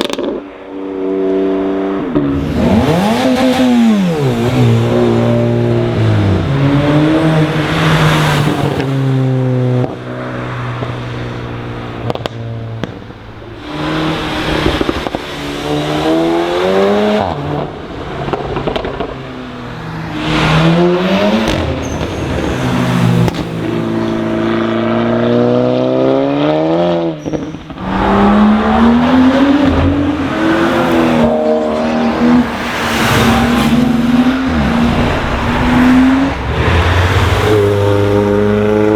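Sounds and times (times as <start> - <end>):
cars accelerating past: 0.0 - 38.9.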